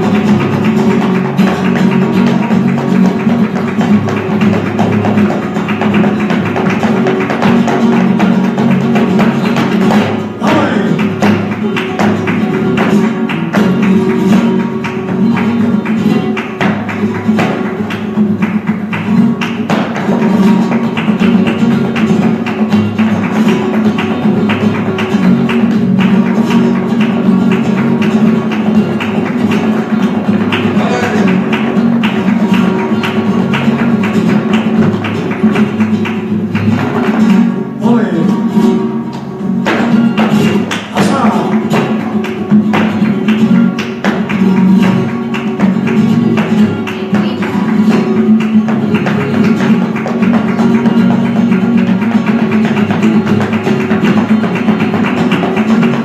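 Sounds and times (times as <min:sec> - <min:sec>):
flamenco guitar music: 0:00.0 - 0:56.0
sharp percussive strikes: 0:00.0 - 0:56.0.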